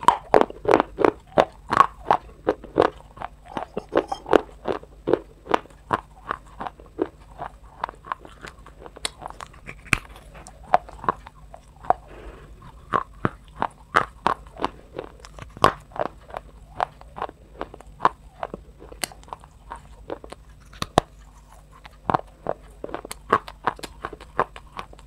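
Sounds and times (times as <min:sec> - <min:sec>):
brittle food crunching: 0:00.0 - 0:25.0.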